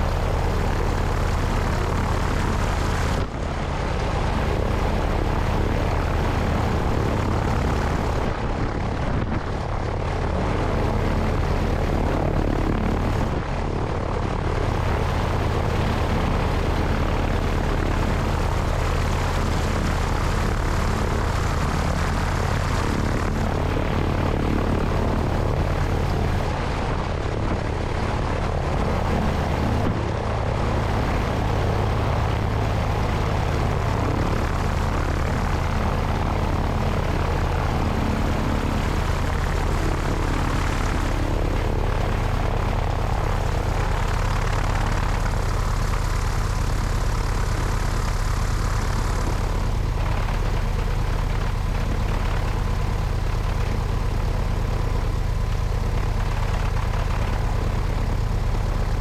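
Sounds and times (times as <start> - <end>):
light aircraft engine and propeller: 0.0 - 59.0
wind noise on microphone: 0.0 - 59.0.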